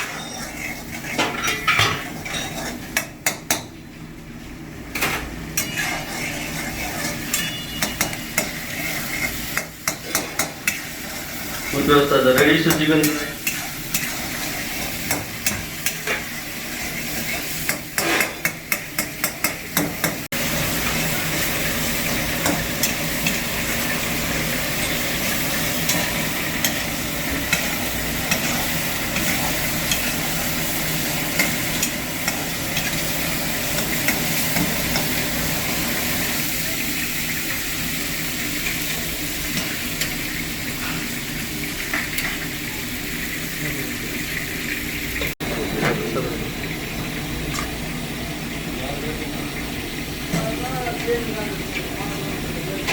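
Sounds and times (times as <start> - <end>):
food sizzling in a pan: 0.0 - 3.6, 5.0 - 52.9.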